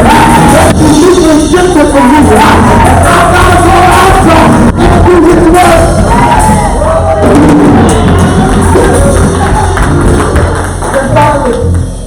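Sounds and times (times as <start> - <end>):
congregation shouting: 0.0 - 11.3
gospel music with singing: 0.0 - 12.0.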